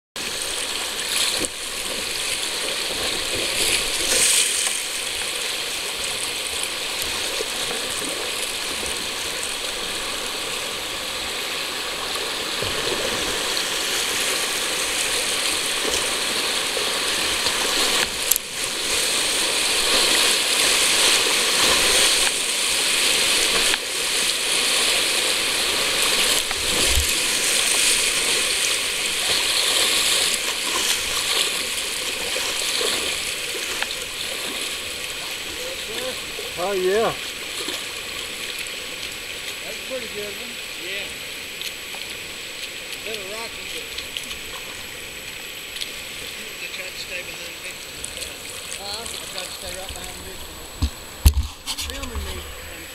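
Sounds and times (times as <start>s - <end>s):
water splashes: 0.2s - 52.9s
whitewater rushing over rocks: 0.2s - 52.9s.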